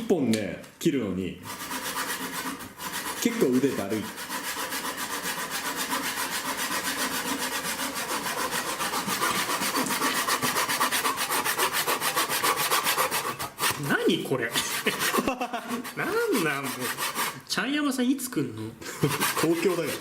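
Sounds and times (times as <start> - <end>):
hand saw cutting wood: 1.4 - 17.4, 18.8 - 20.0.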